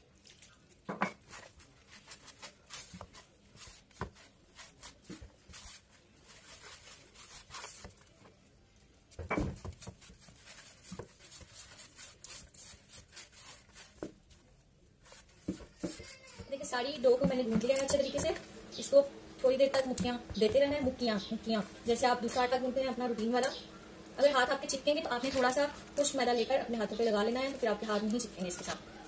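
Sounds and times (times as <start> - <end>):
hand kneading dough: 0.0 - 23.5, 24.2 - 29.0.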